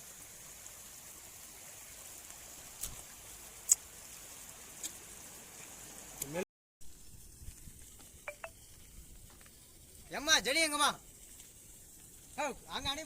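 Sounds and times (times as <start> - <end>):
flowing rainwater hiss: 0.0 - 13.0.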